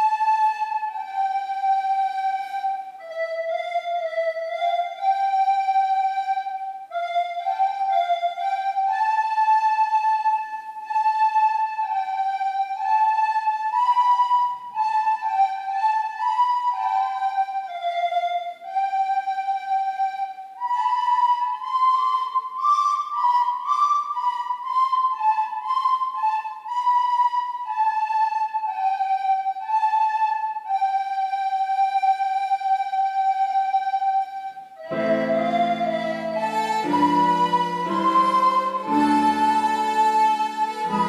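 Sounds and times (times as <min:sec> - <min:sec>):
recorders playing melody: 0:00.0 - 0:41.0.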